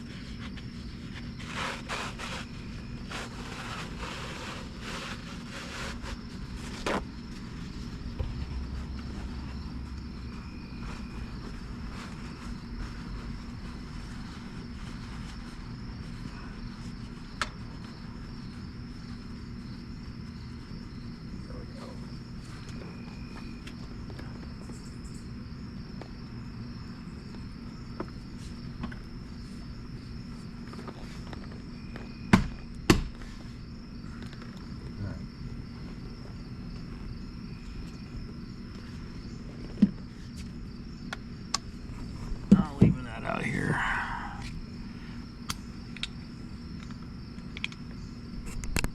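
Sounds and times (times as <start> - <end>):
steady background hum: 0.0 - 48.9.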